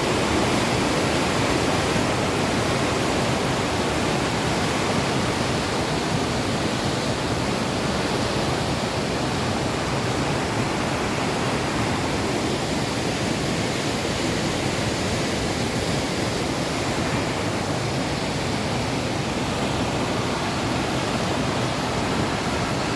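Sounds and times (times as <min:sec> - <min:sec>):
mountain stream rushing over rocks: 0:00.0 - 0:22.9.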